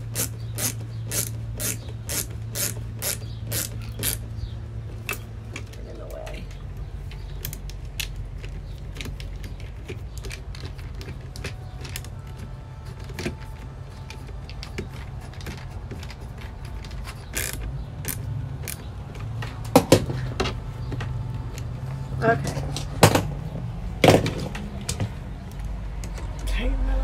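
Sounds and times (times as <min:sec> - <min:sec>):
wires and metal hardware clicking: 0:00.0 - 0:23.3, 0:24.3 - 0:26.5
low steady hum: 0:00.0 - 0:27.0.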